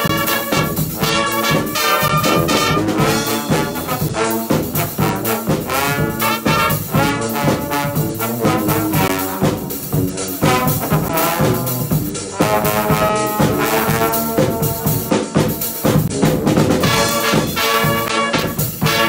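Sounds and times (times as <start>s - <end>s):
drums and cymbal: 0.0s - 19.0s
sousaphone bass line: 0.0s - 19.0s
trumpets and trombone: 0.0s - 19.0s.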